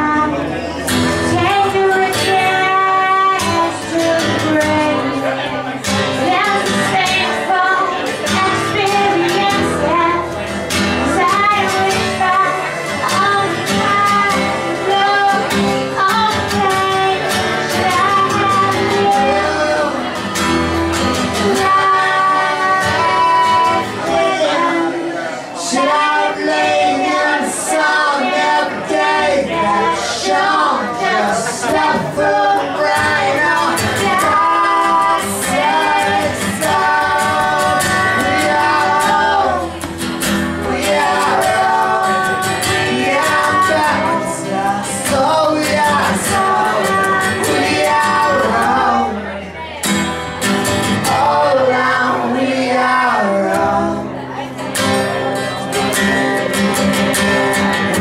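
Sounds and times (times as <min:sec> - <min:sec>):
person singing: 0:00.0 - 0:49.5, 0:50.6 - 0:58.0.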